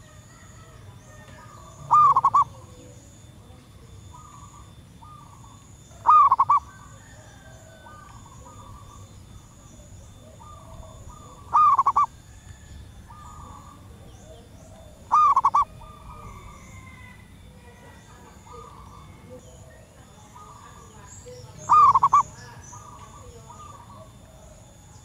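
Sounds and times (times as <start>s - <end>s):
dove rolling cooing: 0.0s - 25.0s
faint dove cooing: 0.0s - 25.0s.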